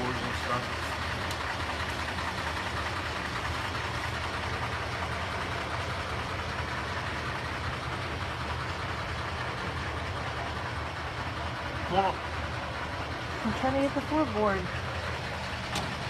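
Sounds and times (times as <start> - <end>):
mechanical engine rumble: 0.0 - 16.0.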